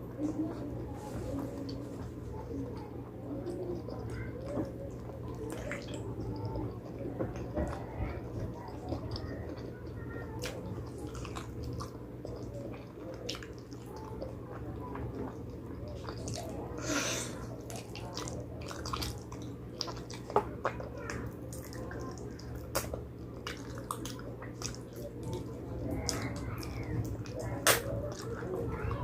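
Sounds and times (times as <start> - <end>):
steady low hum: 0.0 - 29.0
wet chewing and lip-smacking: 1.4 - 16.8, 17.4 - 29.0.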